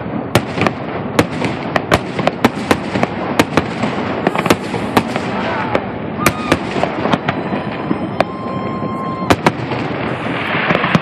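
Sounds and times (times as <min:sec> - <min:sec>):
crackling rumble: 0:00.0 - 0:11.0.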